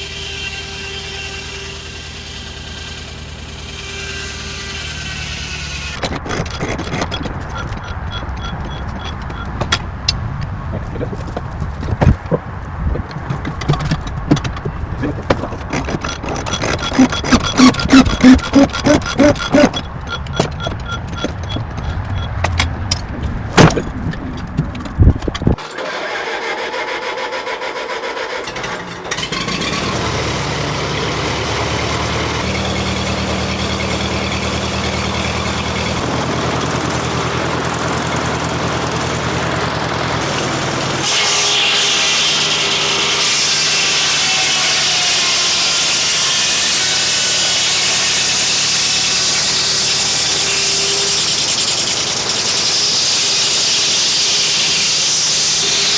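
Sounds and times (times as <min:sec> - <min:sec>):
circular saw cutting log: 0:00.0 - 0:09.8, 0:14.4 - 0:23.7, 0:25.4 - 0:55.9
sawmill engine running: 0:00.0 - 0:55.9.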